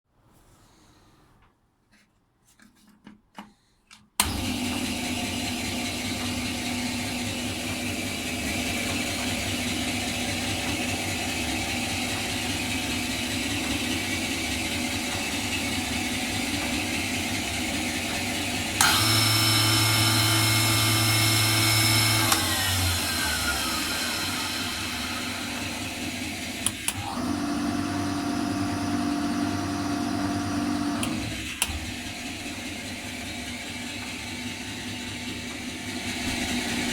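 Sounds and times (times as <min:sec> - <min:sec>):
lathe motor hum and whine: 0:04.2 - 0:36.9.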